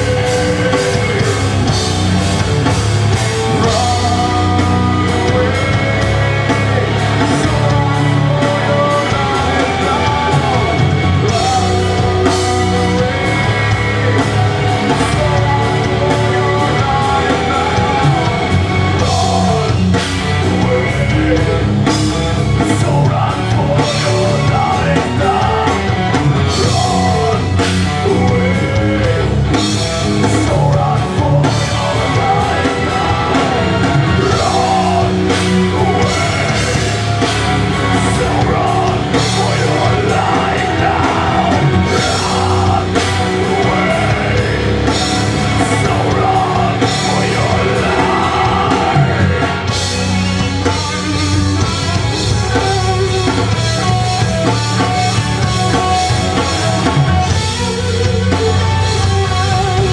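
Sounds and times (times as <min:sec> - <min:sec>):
person singing: 0:00.0 - 0:02.0, 0:02.6 - 0:50.0
drums: 0:00.0 - 0:59.9
electric bass: 0:00.0 - 0:59.9
electric guitars: 0:00.0 - 0:59.9.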